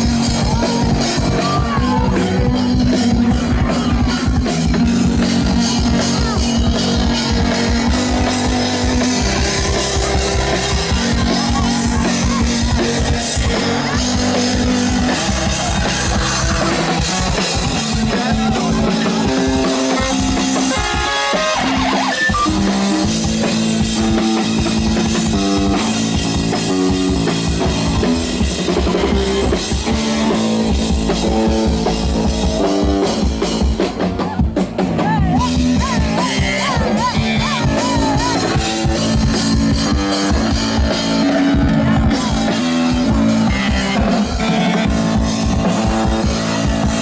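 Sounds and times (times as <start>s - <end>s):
bass: 0.0s - 47.0s
drum kit rock beat: 0.0s - 47.0s.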